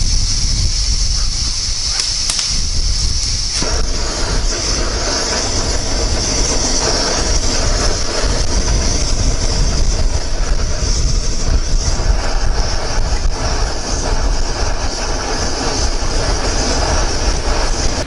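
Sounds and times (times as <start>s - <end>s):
gas stove burning: 0.0s - 18.0s.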